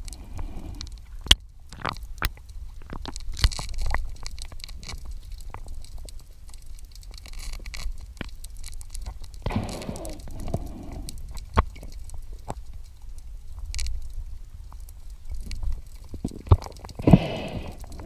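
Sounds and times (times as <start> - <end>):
clicks and knocks underwater: 0.0 - 18.0.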